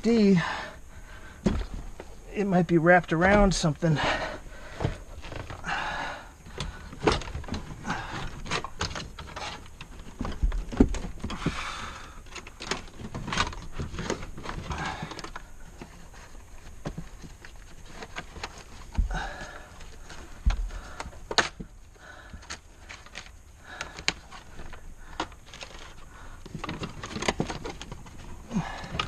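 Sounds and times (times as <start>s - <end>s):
rustling of wires: 0.0s - 29.0s.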